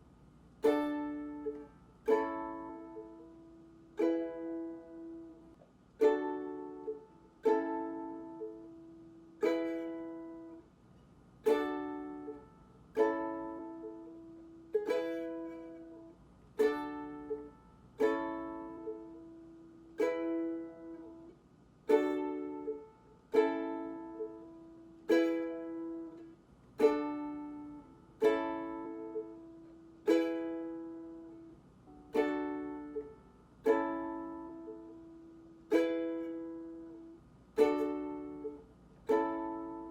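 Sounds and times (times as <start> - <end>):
ukulele chords strummed: 0.6 - 10.7, 11.4 - 39.9.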